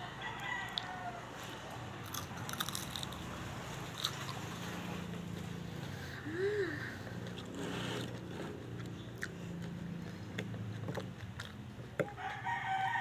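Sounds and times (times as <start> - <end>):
crunching and chewing spring roll: 0.0 - 5.9, 7.0 - 13.0.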